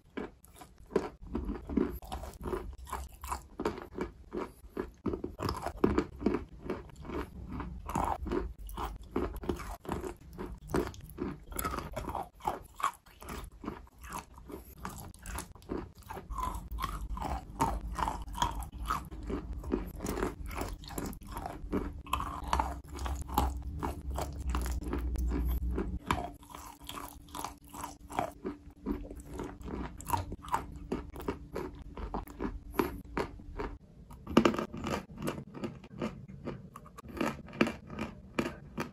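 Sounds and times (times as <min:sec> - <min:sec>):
chalk crunching while chewing: 0:00.0 - 0:38.9.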